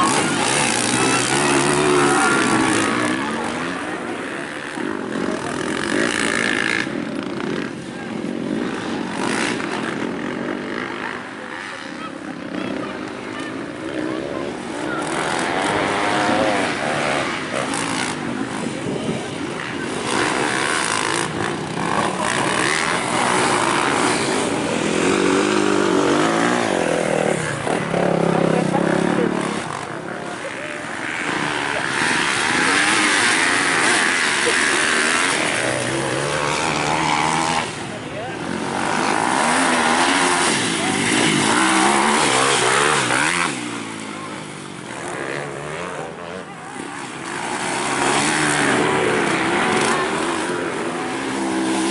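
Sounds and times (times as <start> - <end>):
motocross bikes revving: 0.0 - 51.9.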